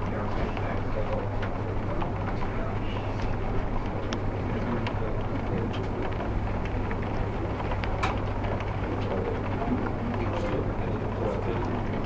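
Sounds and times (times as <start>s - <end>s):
heavy rain through a window: 0.1s - 12.0s.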